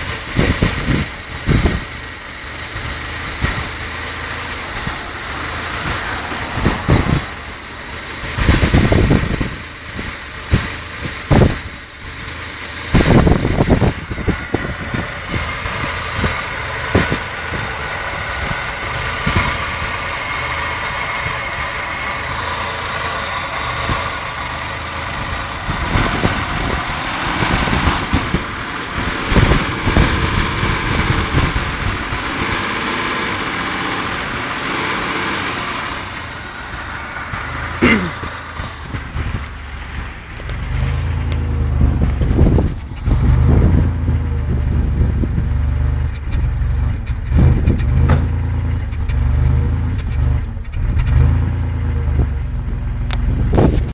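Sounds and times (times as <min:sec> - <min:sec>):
engine running with misfire: 0:00.0 - 0:53.9.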